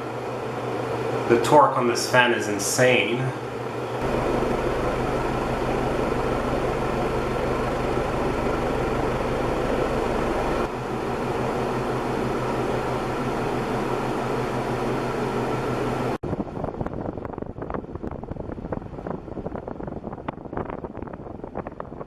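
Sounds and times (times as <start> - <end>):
ceiling fan motor hum: 0.0 - 22.0
rush of air from fan blades: 0.0 - 22.0.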